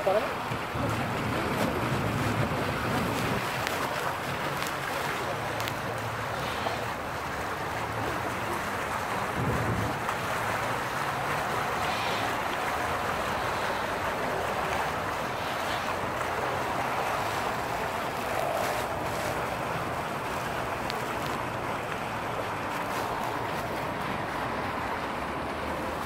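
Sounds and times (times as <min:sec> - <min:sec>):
steady rushing outdoor noise: 0:00.0 - 0:26.0.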